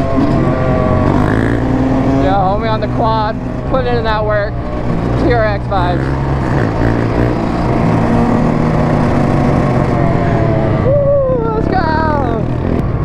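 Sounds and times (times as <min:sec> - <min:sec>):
dirt bike engines running: 0:00.0 - 0:13.0
engine revving: 0:00.0 - 0:13.0.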